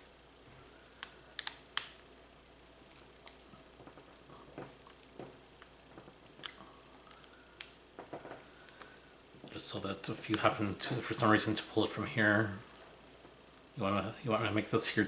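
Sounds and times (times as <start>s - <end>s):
faint ticks and rustles: 0.4s - 14.2s.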